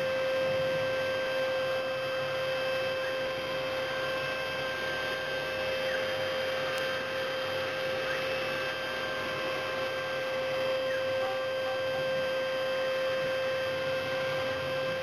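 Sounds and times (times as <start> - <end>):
constant noise haze: 0.0 - 15.0
milling machine spindle whine: 0.0 - 15.0.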